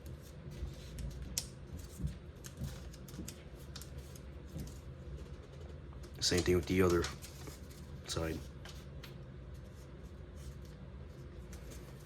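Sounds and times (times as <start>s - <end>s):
paper crinkling and crackling: 0.0s - 12.0s.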